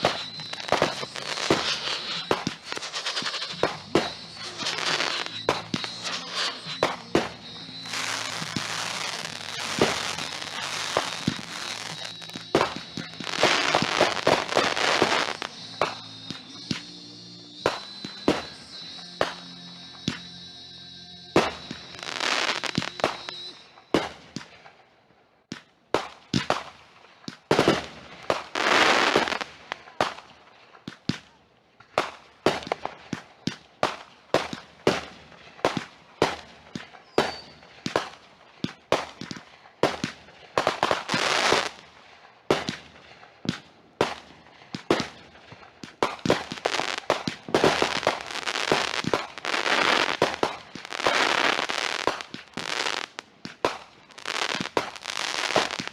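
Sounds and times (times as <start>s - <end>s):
fireworks bangs: 0.0s - 20.4s, 21.3s - 55.9s
fireworks crackling hiss: 0.0s - 24.6s, 26.0s - 31.3s, 32.0s - 55.9s.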